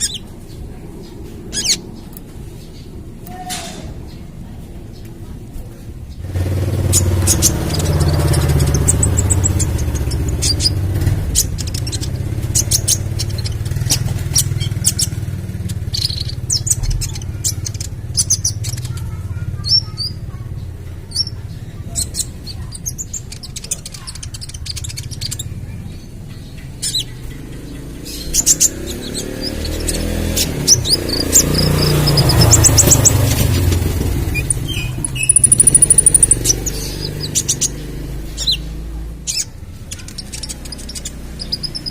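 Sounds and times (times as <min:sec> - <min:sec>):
bird chirping and trilling: 0:00.0 - 0:05.1, 0:06.1 - 0:41.9.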